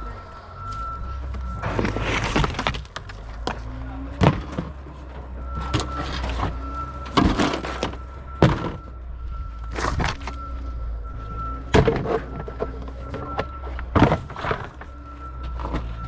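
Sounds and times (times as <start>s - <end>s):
low engine hum: 0.0s - 16.0s
scrap metal thuds and clanks: 0.6s - 10.8s, 11.4s - 16.0s.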